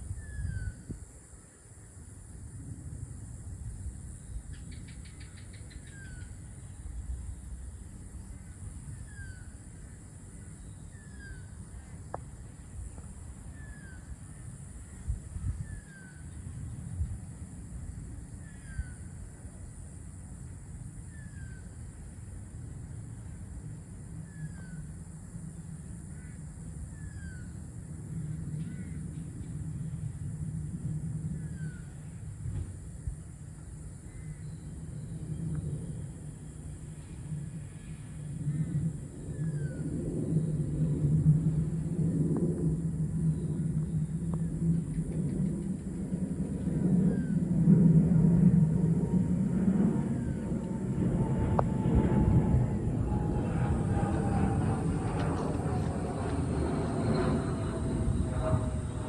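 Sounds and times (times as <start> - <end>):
low rumble of wind or traffic: 0.0 - 59.0.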